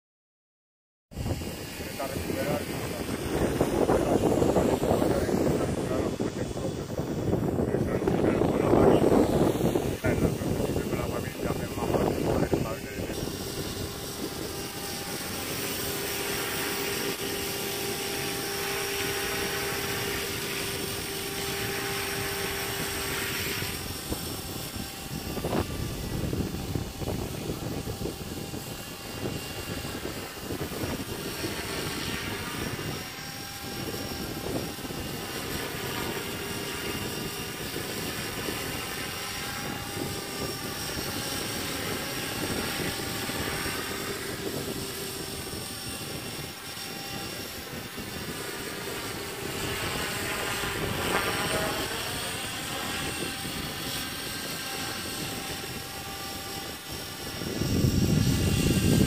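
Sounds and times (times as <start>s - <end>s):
model helicopter motor whine: 1.2s - 59.0s.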